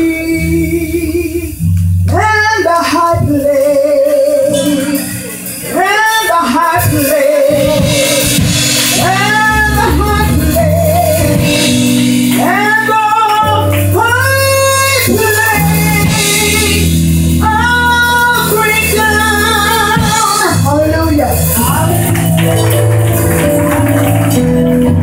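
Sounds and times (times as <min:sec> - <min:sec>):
woman singing gospel: 0:00.0 - 0:21.9
instrumental backing with bass: 0:00.0 - 0:25.0.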